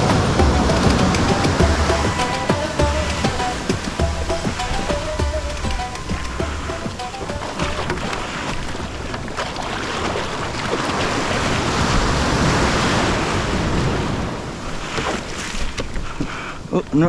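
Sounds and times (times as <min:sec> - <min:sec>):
sea waves breaking on shore: 0:00.0 - 0:16.7.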